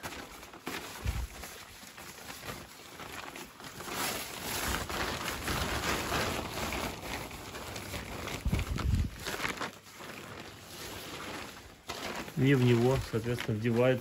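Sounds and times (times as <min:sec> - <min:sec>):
stiff fabric crinkling: 0:00.0 - 0:14.0.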